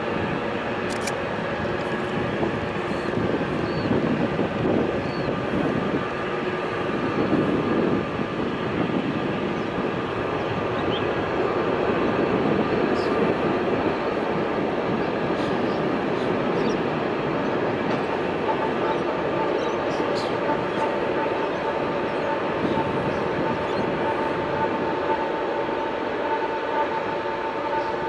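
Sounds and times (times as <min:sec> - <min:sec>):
jet engines rumbling: 0:00.0 - 0:26.4.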